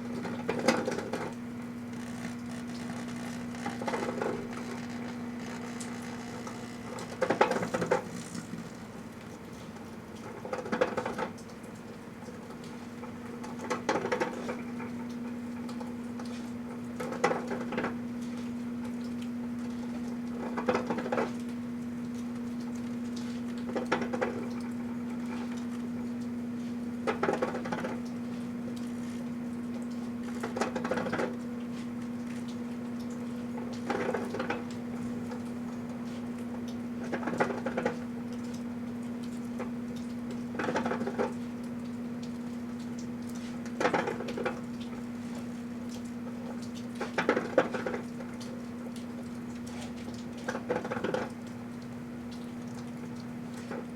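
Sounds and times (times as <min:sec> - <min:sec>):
microwave oven humming: 0:00.0 - 0:53.9.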